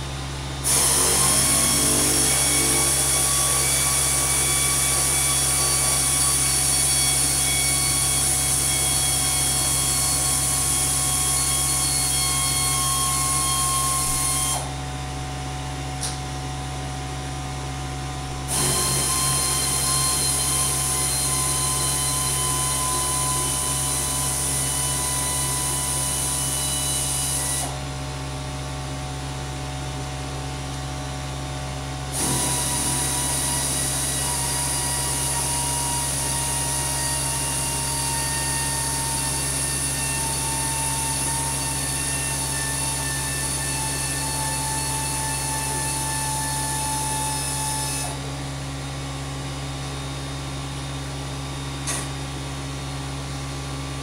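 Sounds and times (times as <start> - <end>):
machine hum and whine: 0.0 - 54.0.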